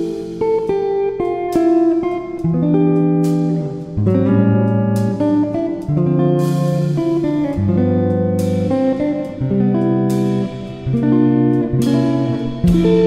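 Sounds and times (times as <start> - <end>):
guitar playing chords: 0.0 - 13.0.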